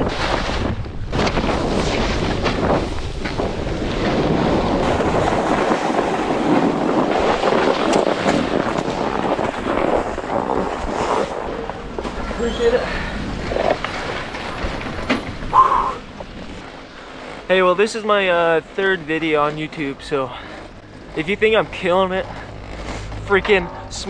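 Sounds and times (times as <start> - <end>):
snowboard scraping over snow: 0.0 - 24.0
wind buffeting microphone: 0.0 - 24.0.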